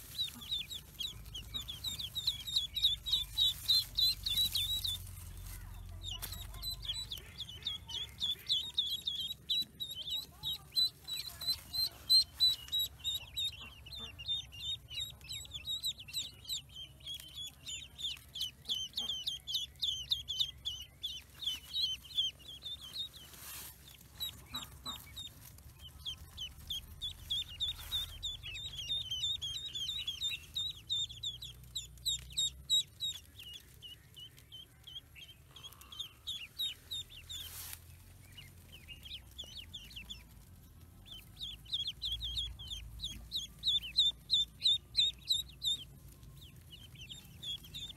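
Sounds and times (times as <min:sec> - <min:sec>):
ducklings peeping: 0:00.0 - 0:47.9.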